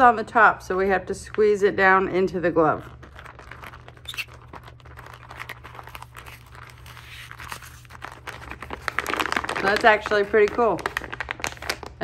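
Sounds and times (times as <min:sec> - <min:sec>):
plastic foil pouch crinkling: 0:02.2 - 0:12.0.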